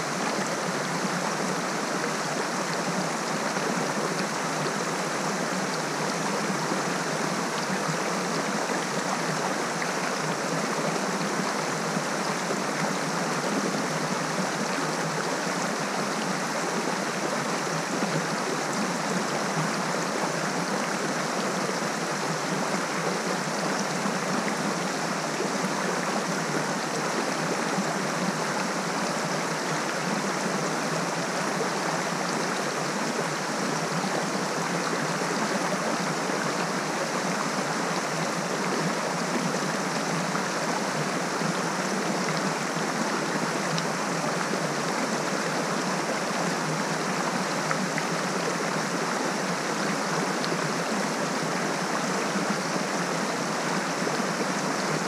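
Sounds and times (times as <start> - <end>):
small waterfall rushing over rocks: 0.0 - 55.0.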